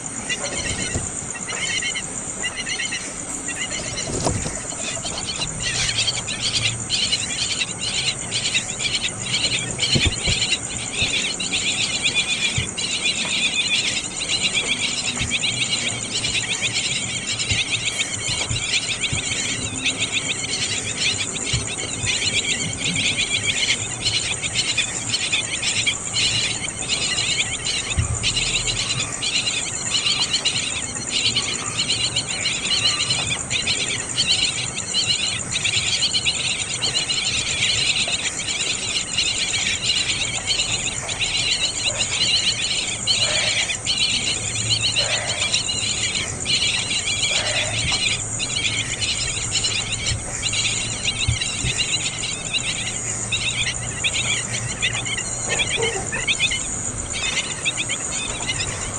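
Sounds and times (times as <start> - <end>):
crickets chirring: 0.0 - 58.9.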